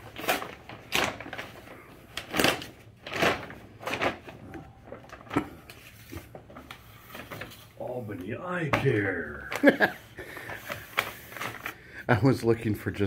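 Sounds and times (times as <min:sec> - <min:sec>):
paper bag rustling: 0:00.0 - 0:11.8.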